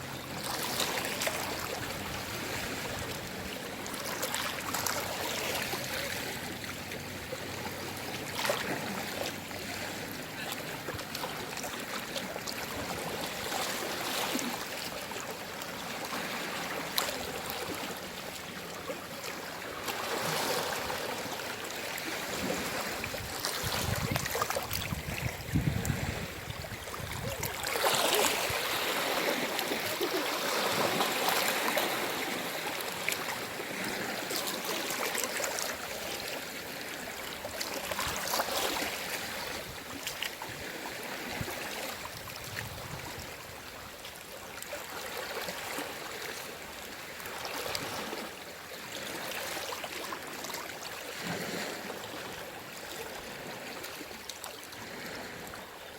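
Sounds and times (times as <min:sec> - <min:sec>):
small waves washing on shore: 0:00.0 - 0:55.9.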